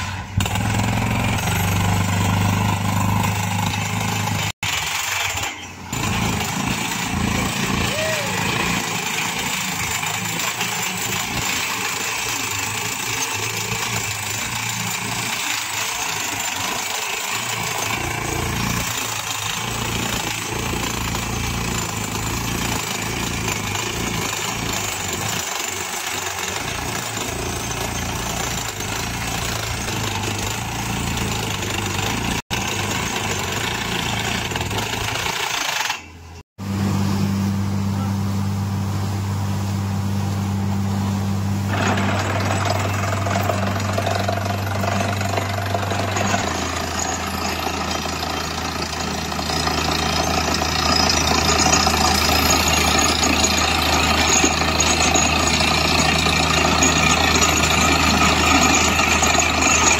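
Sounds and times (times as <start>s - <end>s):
drilling rig rattling: 0.0s - 36.3s, 41.7s - 59.9s.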